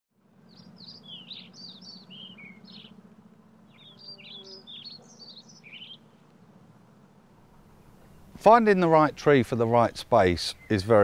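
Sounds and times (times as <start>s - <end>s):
low hum: 0.2s - 10.7s
songbird chirping: 0.2s - 11.0s.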